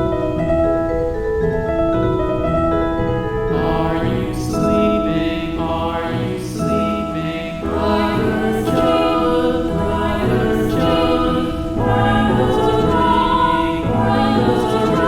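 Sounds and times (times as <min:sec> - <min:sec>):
slow music of sustained chords: 0:00.0 - 0:15.0.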